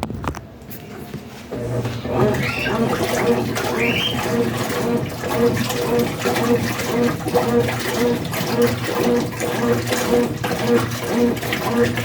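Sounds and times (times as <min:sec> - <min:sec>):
washing machine agitating: 0:00.0 - 0:12.0.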